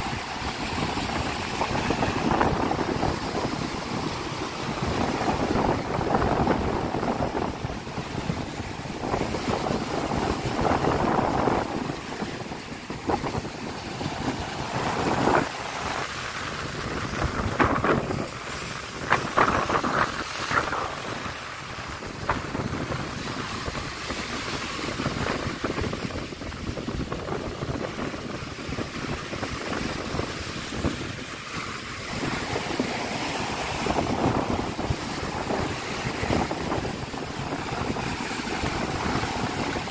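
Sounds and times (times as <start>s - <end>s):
waves breaking on pebble beach: 0.0s - 39.9s
wind buffeting microphone: 0.0s - 39.9s.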